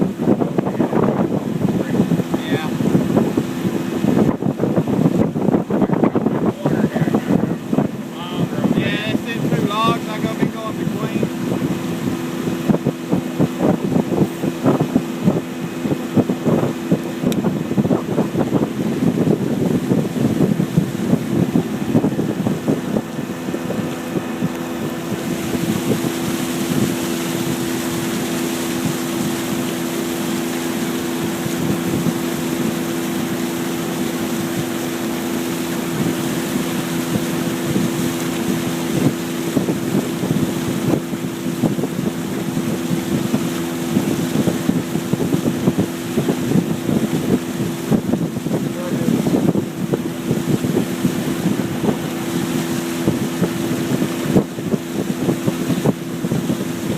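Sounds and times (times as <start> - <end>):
boat motor running: 0.0 - 56.9
water rushing: 0.0 - 56.9
wind buffeting microphone: 0.0 - 56.9.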